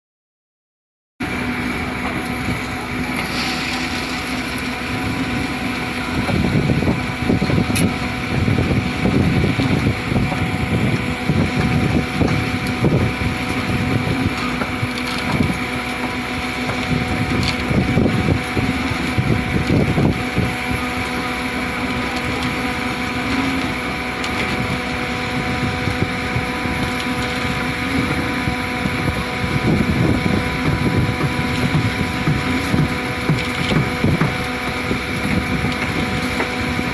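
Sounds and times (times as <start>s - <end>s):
concrete pump humming: 1.2s - 36.9s
wind buffeting microphone: 3.9s - 36.9s.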